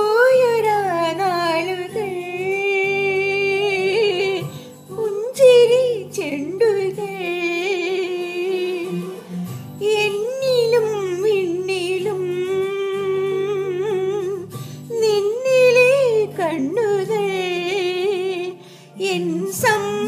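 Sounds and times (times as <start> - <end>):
high voice singing with vibrato: 0.0 - 20.0
recorded song accompaniment: 0.0 - 20.0.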